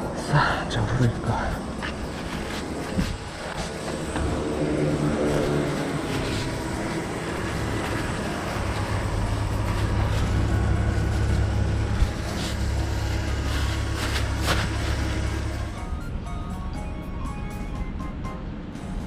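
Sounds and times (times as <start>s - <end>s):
car engine and road noise: 0.8s - 16.2s.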